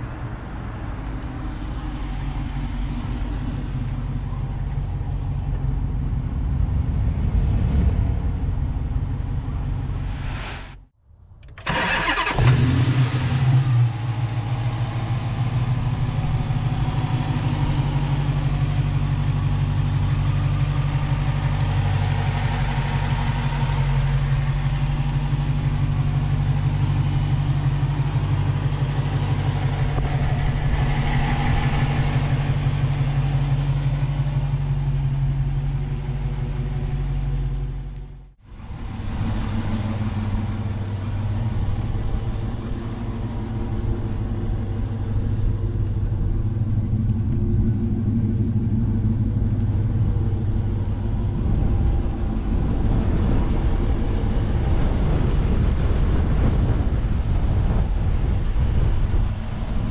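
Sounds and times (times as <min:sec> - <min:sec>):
car engine idling: 0:00.0 - 0:10.3, 0:11.4 - 0:59.9.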